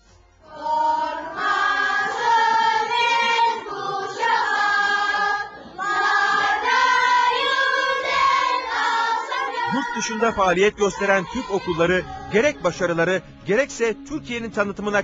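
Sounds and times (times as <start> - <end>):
children's choir singing: 0.4 - 13.2.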